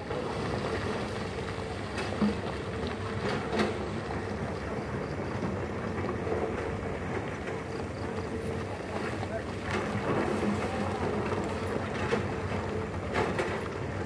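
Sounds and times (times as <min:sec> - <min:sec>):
distant excavator diesel engine: 0:00.0 - 0:14.0.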